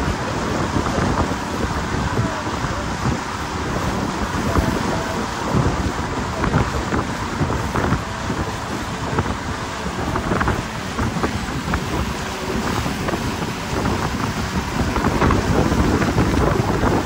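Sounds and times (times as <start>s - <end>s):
boat hull thudding on waves: 0.0s - 17.0s
wind buffeting microphone: 0.0s - 17.0s.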